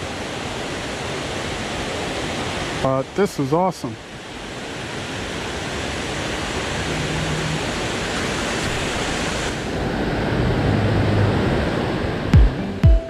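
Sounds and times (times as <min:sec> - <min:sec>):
river water rushing: 0:00.0 - 0:12.8.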